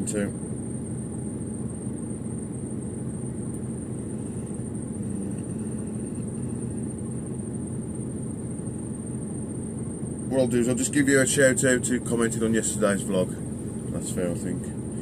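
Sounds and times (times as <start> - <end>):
low mechanical hum: 0.0 - 15.0
thin high whine: 1.1 - 15.0.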